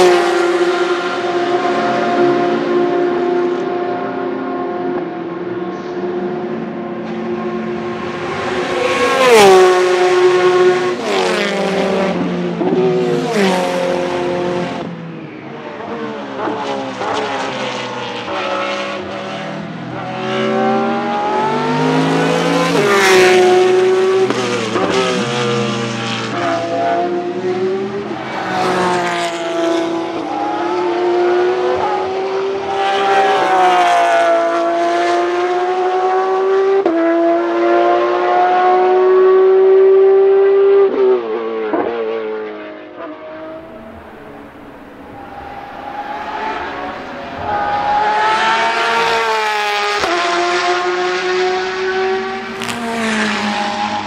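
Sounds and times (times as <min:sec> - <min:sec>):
race car engine passing: 0:00.0 - 0:54.0.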